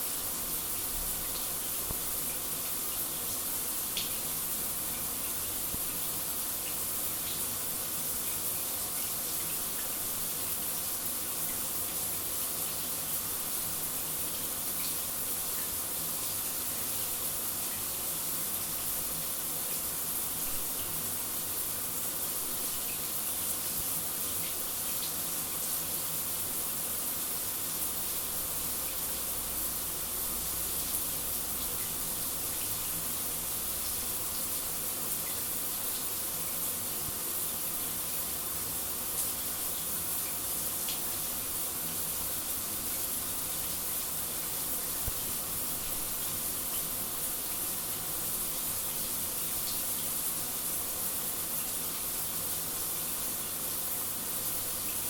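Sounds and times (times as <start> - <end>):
shower water spray hissing: 0.0 - 55.0.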